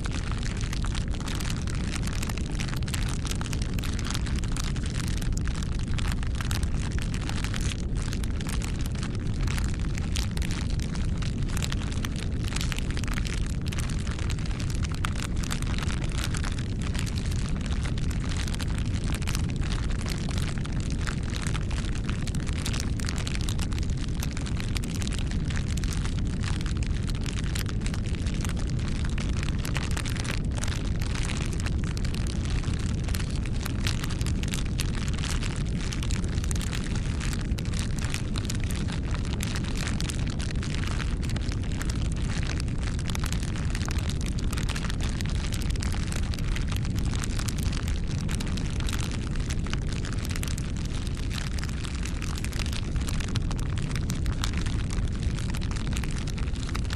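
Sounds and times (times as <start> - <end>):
bonfire flame rumbling: 0.0 - 56.9
burning wood crackling and popping: 0.0 - 56.9.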